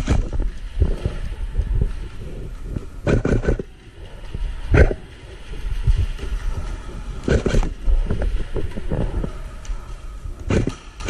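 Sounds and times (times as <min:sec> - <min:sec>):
low rumble: 0:00.0 - 0:10.7.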